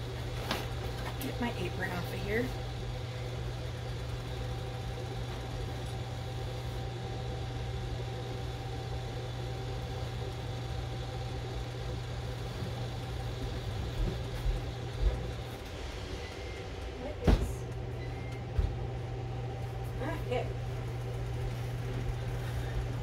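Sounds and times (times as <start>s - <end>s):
air fryer humming: 0.0s - 23.0s.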